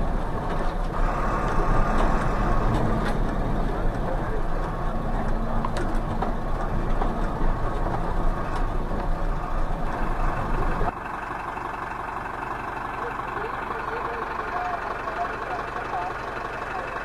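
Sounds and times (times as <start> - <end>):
bus body rattling: 0.0 - 17.0
bus engine running: 0.0 - 17.0.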